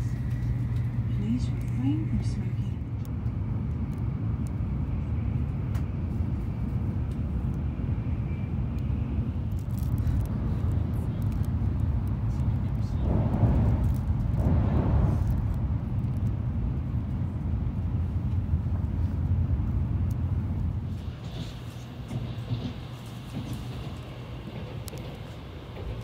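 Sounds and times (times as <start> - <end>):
train rumble inside cabin: 0.0 - 26.0.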